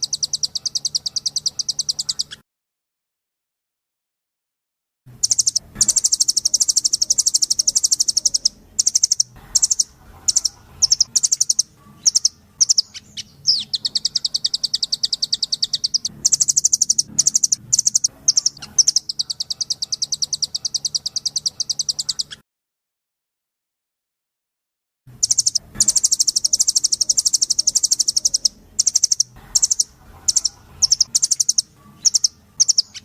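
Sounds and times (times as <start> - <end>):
bird high trills: 0.0 - 2.4, 5.2 - 22.4, 25.2 - 33.0.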